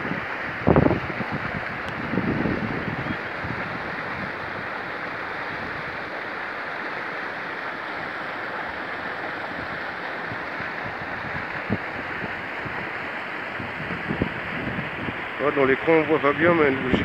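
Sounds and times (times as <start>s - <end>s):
wind buffeting microphone: 0.0s - 6.2s, 9.0s - 17.0s
river water over rapids: 0.0s - 17.0s.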